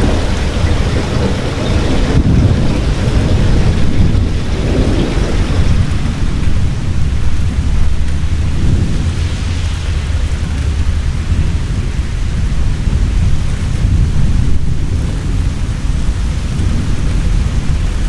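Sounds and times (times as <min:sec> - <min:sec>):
heavy rain pouring: 0:00.0 - 0:18.0
rolling thunder rumble: 0:00.0 - 0:18.0.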